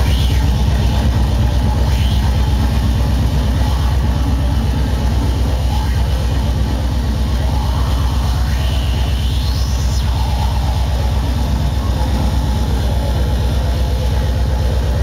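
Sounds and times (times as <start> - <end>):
fast distorted kick drums: 0.0 - 15.0
noisy synths: 0.0 - 15.0.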